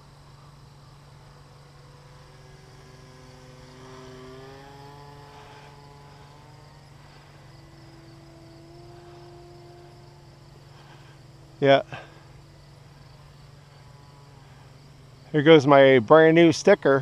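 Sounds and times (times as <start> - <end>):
model plane motor whining: 0.0 - 16.9.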